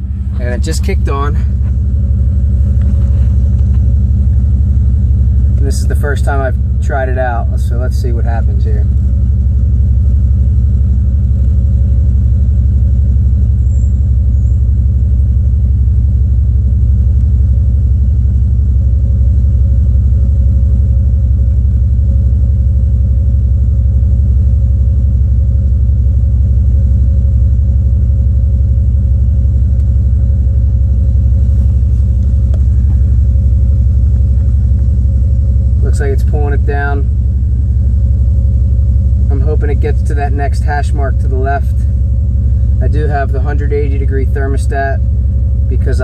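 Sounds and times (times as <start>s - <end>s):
engine idling: 0.0s - 46.0s
radiator fan running: 0.0s - 46.0s.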